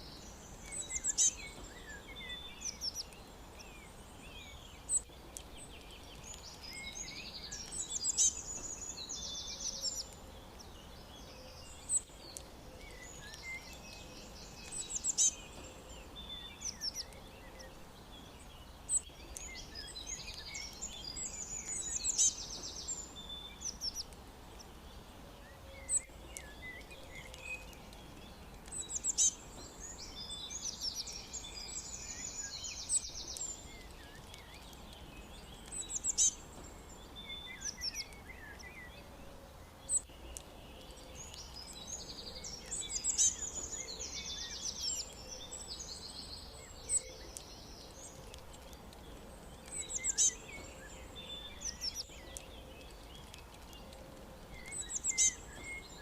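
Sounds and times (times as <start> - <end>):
low background noise: 0.0 - 56.0
songbirds chirping: 0.0 - 56.0.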